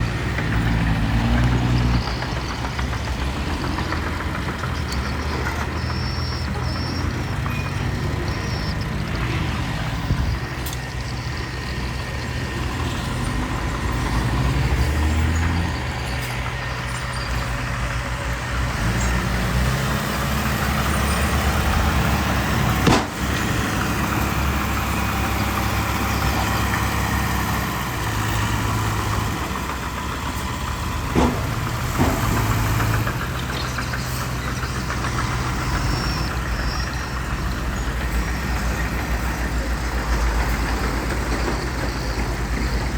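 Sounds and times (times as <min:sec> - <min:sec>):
diesel engines of heavy machinery: 0:00.0 - 0:42.9.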